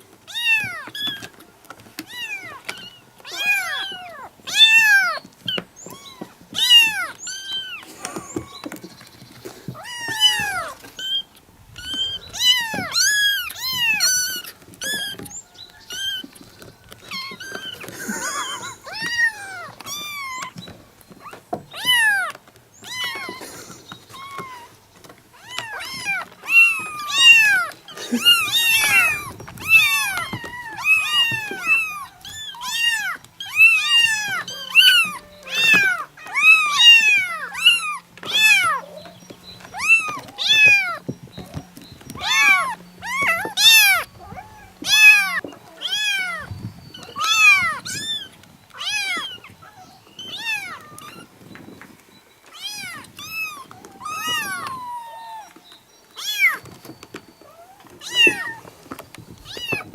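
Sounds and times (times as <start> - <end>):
kittens meowing: 0.3 - 51.7, 52.4 - 59.9.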